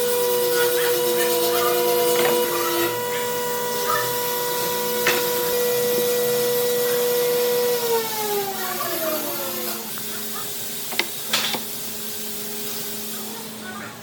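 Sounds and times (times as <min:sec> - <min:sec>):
power tool motor running: 0:00.0 - 0:14.0.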